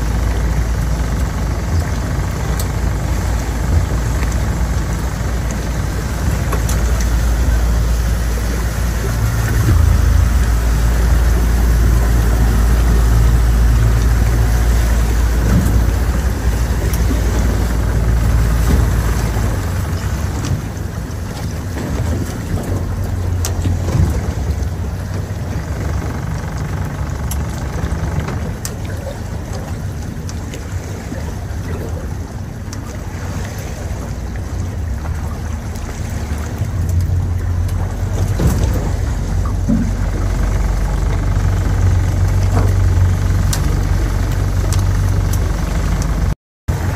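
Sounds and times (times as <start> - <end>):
boat motor idling: 0.0 - 46.9.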